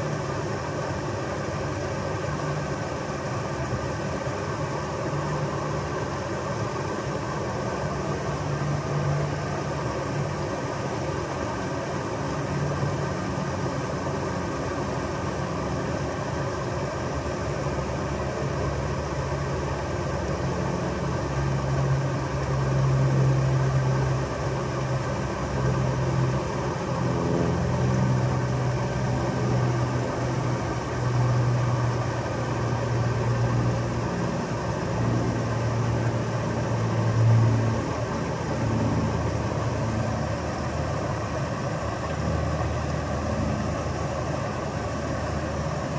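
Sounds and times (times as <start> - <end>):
creek cascade rushing: 0.0 - 45.9.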